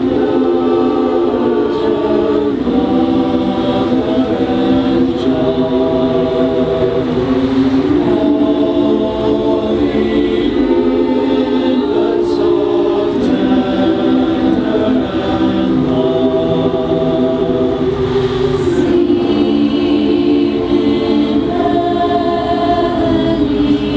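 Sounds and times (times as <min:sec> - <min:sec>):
choir singing slow sustained notes: 0:00.0 - 0:23.9.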